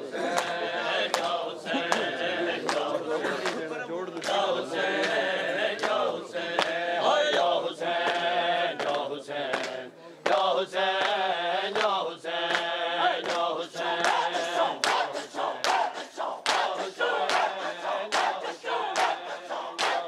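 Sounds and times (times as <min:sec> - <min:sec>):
men chanting together: 0:00.0 - 0:20.0
hands slapping chests: 0:00.4 - 0:03.6, 0:05.8 - 0:11.2, 0:11.8 - 0:20.0.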